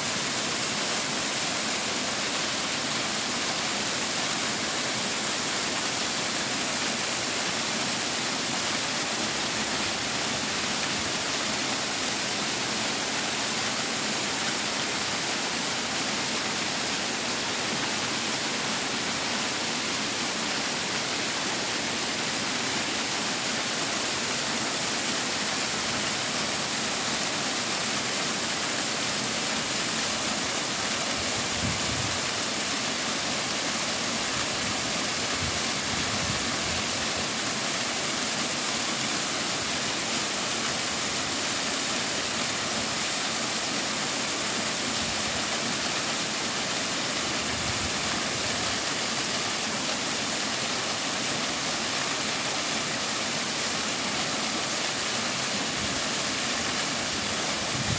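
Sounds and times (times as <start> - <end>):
waterfall rushing and splashing: 0.0 - 57.9.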